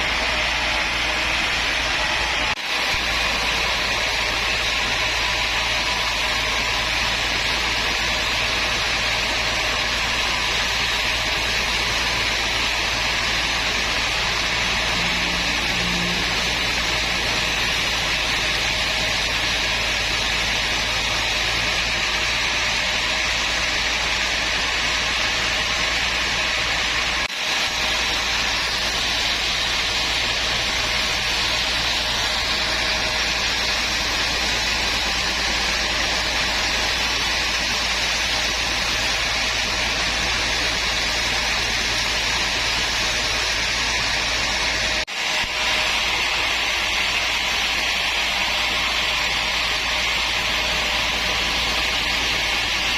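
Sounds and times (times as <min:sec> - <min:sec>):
woodworking machine whining: 0:00.0 - 0:52.9.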